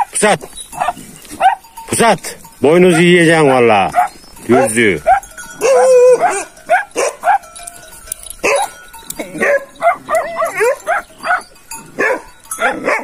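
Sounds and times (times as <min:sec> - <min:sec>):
dogs barking: 0:00.0 - 0:01.8, 0:02.8 - 0:13.0.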